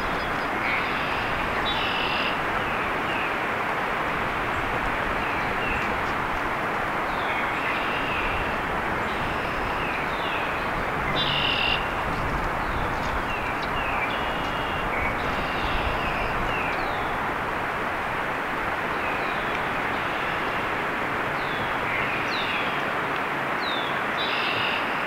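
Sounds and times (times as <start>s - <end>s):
steady rushing noise: 0.0s - 24.2s.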